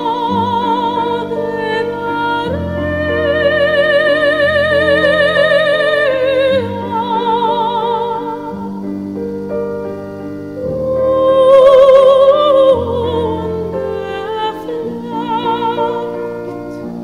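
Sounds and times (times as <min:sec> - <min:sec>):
soft musical accompaniment: 0:00.0 - 0:17.0.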